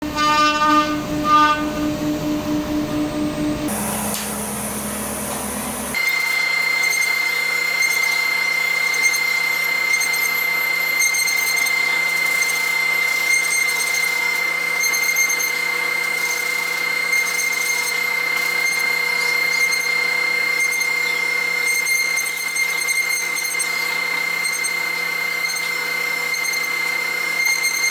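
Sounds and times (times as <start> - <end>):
router bit whining in wood: 0.0 - 27.9.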